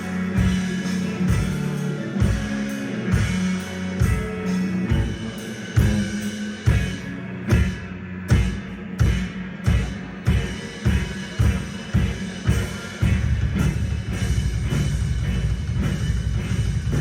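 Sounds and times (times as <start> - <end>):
drum kit pounding: 0.0 - 17.0
rock band playing live: 0.0 - 17.0.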